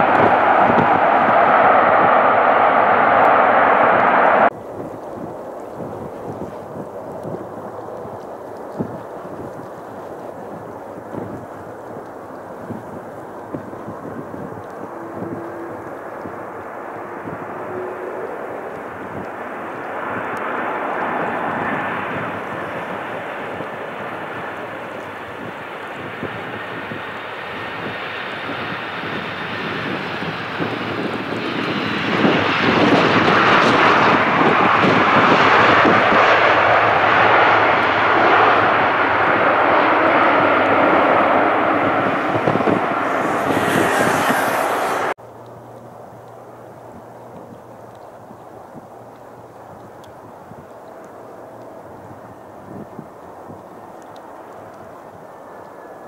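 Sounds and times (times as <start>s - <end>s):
jet engines roaring: 0.0s - 46.8s
distant airliner jet sound: 0.0s - 47.2s.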